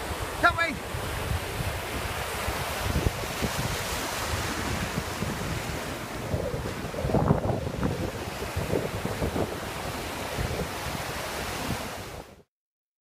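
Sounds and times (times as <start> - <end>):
wind buffeting microphone: 0.0 - 12.4
surf washing over shore: 0.0 - 12.5.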